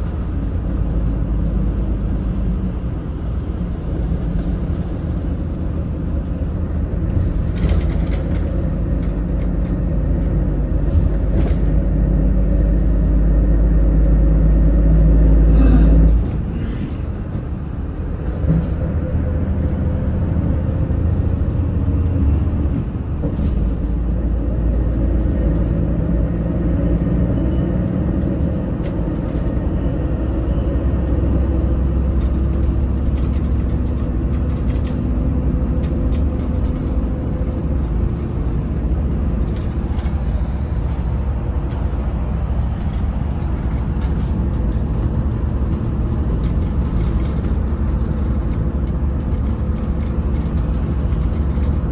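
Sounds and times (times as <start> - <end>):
diesel coach engine drone: 0.0 - 51.9
road noise: 0.0 - 51.9.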